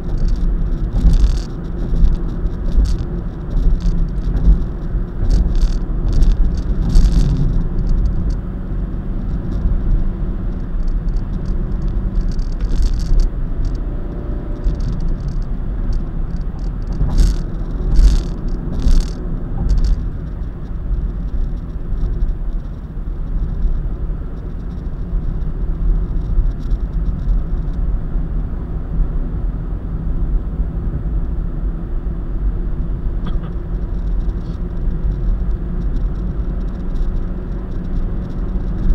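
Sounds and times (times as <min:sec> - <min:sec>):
short rattling crackles: 0:00.0 - 0:27.9, 0:33.2 - 0:38.9
car road and engine rumble: 0:00.0 - 0:38.9.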